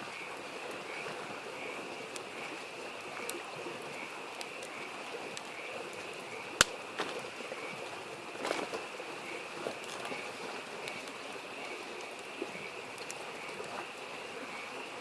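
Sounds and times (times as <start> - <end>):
frogs chorus: 0.0 - 15.0
wood fire crackling: 0.0 - 15.0.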